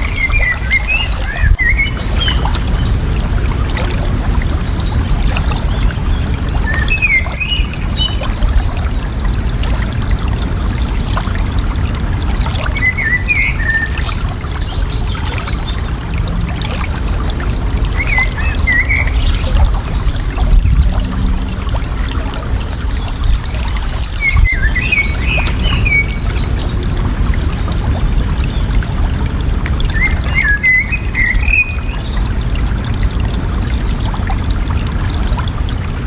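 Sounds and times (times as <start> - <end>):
water babbling: 0.0 - 36.0.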